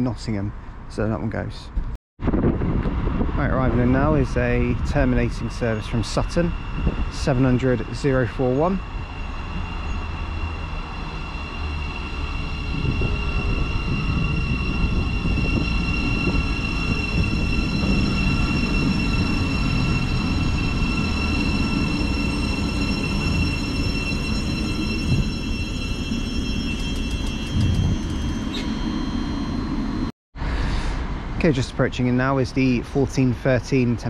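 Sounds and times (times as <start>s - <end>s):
train rumble: 0.2s - 34.0s
high-pitched whine: 2.3s - 30.1s.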